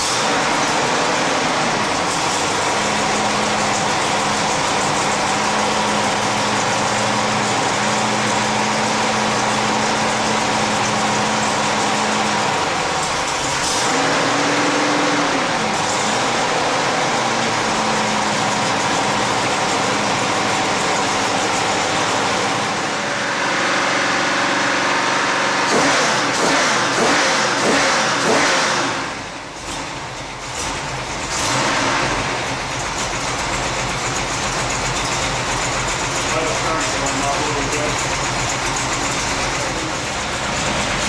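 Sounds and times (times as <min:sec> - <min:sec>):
engine idling and revving: 0:00.0 - 0:41.0.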